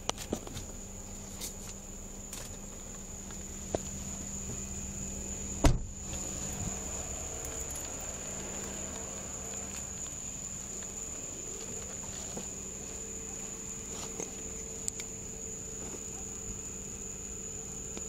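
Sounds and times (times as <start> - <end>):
crickets chirping: 0.0 - 18.0
low steady hum: 0.0 - 18.0.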